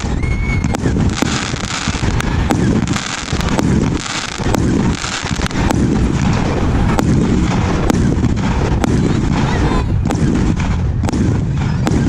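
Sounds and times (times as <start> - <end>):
firework barrage: 0.0 - 12.0
sharp firework cracks: 0.0 - 12.0.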